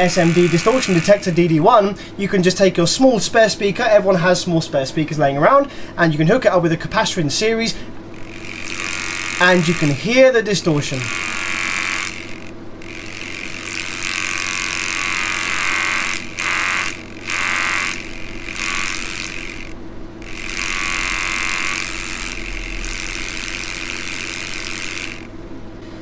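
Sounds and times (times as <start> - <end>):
speaker buzzing with distortion: 0.0 - 2.1, 7.2 - 26.0.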